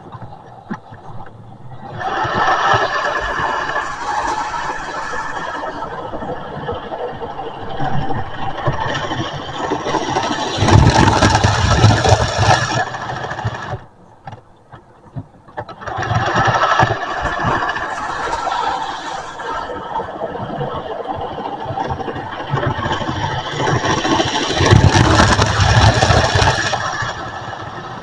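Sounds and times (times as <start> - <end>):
wheels clicking over rails: 0.0 - 28.0
model train motor hum: 1.8 - 13.9, 15.8 - 28.0.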